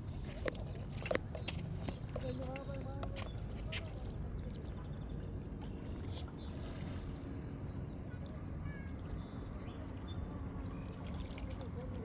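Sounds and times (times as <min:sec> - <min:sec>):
water lapping along shore: 0:00.0 - 0:12.0.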